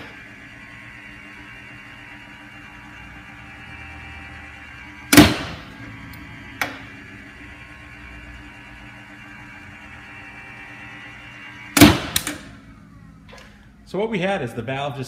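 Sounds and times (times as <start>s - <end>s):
valve motor humming: 0.0s - 14.4s.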